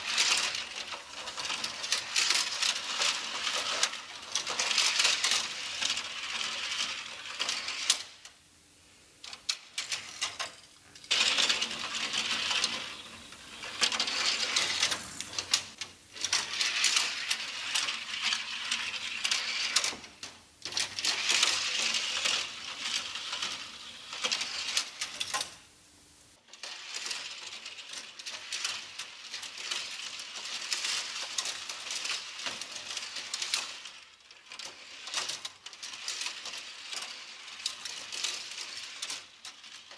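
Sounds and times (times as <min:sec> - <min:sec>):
toy cars rattling down plastic ramp: 0:00.0 - 0:08.4, 0:09.2 - 0:25.7, 0:26.4 - 0:39.9.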